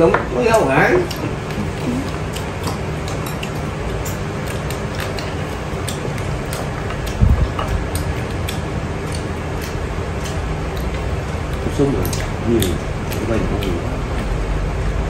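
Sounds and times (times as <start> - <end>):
chopsticks clicking on porcelain bowls: 1.0 - 14.3.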